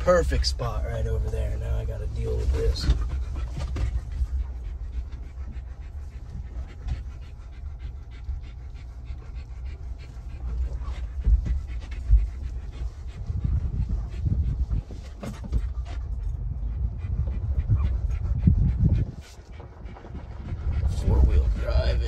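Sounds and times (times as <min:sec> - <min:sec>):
dog panting: 0:00.0 - 0:22.0
heavy low thumps: 0:00.0 - 0:22.0
vehicle rumbling over rough ground: 0:00.0 - 0:22.0.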